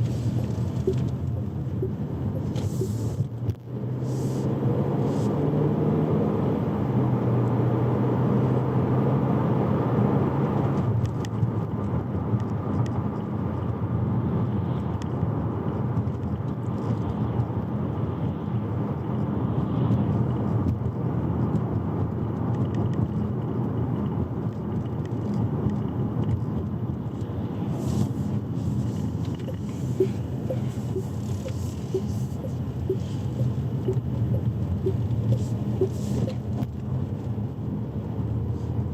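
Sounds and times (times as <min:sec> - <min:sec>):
car tyres and drivetrain rumbling: 0:00.0 - 0:38.9.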